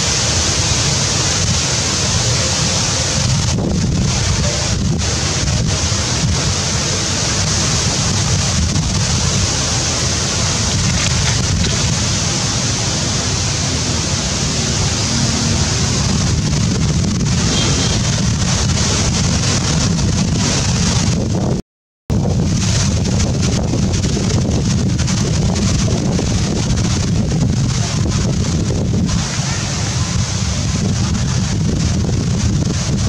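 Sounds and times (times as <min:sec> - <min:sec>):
loud rushing noise: 0:00.0 - 0:33.0.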